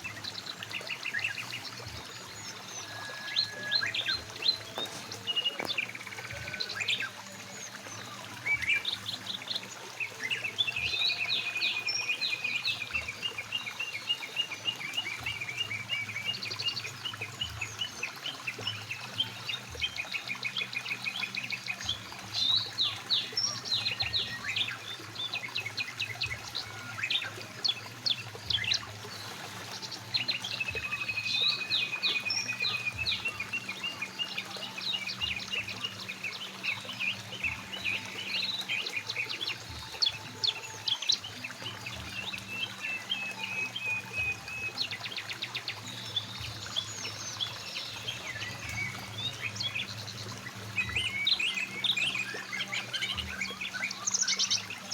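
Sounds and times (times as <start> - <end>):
river flowing: 0.0 - 54.9
songbirds singing: 0.0 - 54.9.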